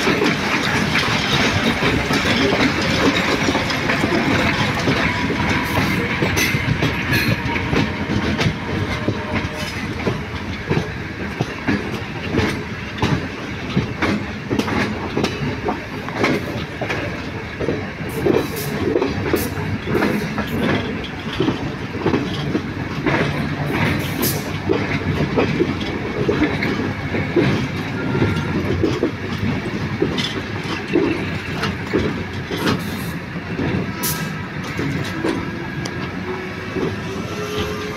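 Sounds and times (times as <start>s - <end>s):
train wheels rumbling: 0.0s - 37.9s
wheels clacking over rail joints: 0.0s - 37.9s.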